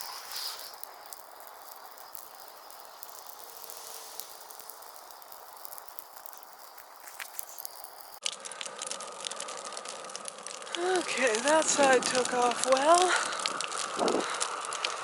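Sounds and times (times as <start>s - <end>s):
bonfire hissing: 0.0s - 15.0s
fire crackling and popping: 0.0s - 15.0s.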